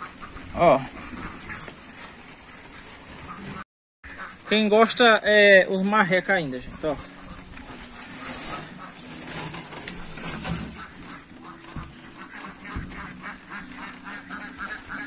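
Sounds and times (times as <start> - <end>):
ducks quacking: 0.0 - 15.0
rain falling: 0.0 - 15.0.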